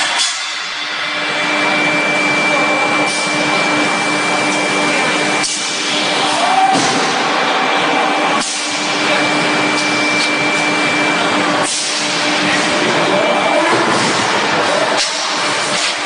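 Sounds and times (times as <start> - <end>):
hissing forging machinery: 0.0 - 6.4, 7.0 - 16.0
steady machine hum: 0.0 - 16.0.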